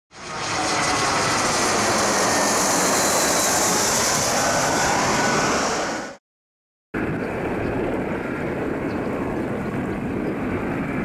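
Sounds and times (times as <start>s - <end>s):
jet airliner passing overhead: 0.1s - 6.2s, 7.0s - 11.0s.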